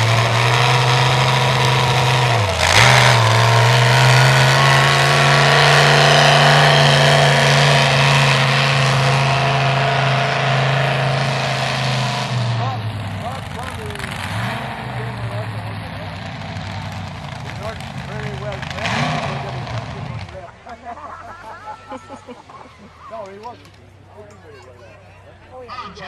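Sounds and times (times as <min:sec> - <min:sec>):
tractor engine at high revs: 0:00.0 - 0:24.3.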